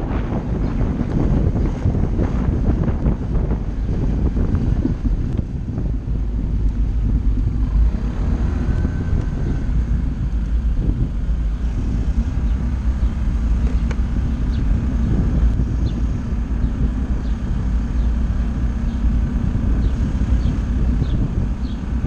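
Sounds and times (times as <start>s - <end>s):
scooter engine running: 0.0s - 22.0s
wind buffeting microphone: 0.0s - 22.0s.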